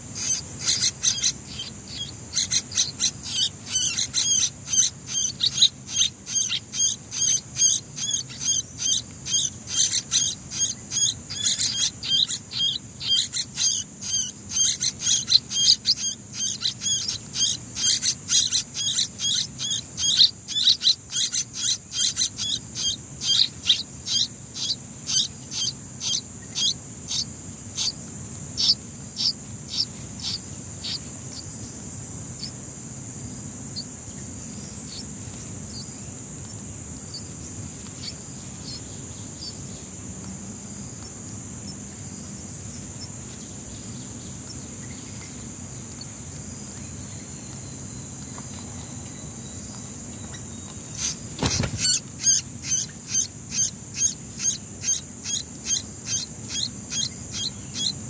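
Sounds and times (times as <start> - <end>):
high insect drone: 0.0 - 58.0
nestlings begging chirps: 0.0 - 58.0.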